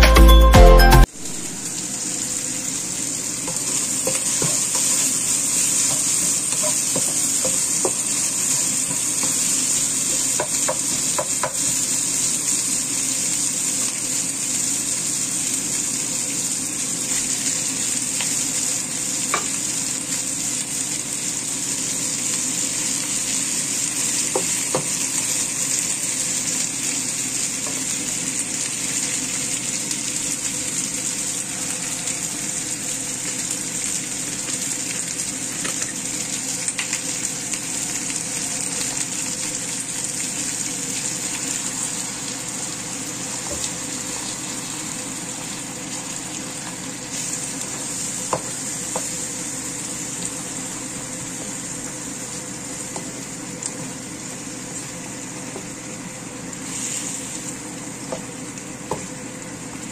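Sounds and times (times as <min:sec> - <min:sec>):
onions sizzling in hot oil: 0:01.1 - 0:59.9.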